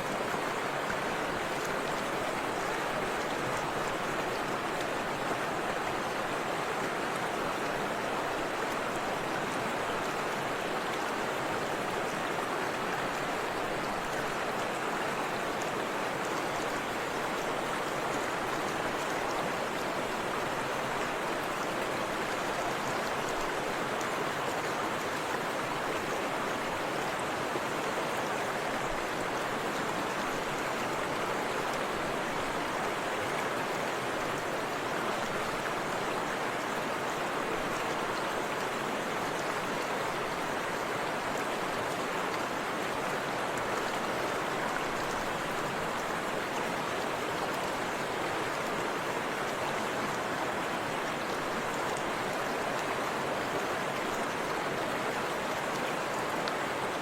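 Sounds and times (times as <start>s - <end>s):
river water rushing and splashing: 0.0s - 57.0s.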